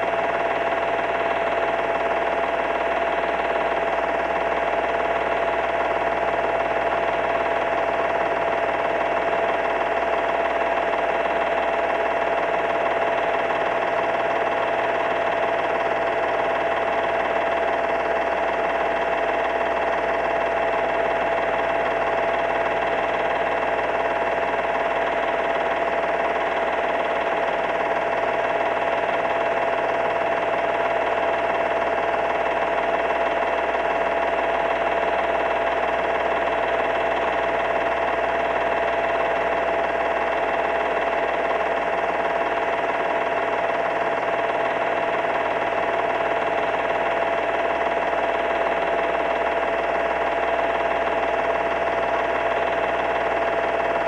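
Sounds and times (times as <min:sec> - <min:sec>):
film projector whine: 0:00.0 - 0:54.0.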